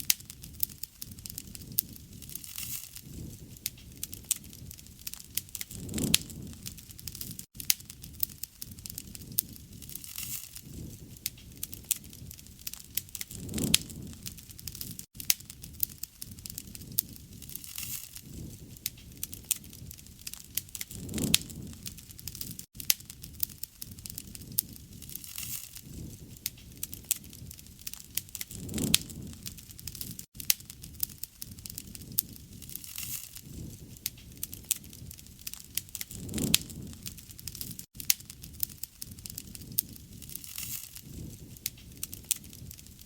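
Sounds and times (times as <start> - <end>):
bonfire crackling and popping: 0.0 - 43.0.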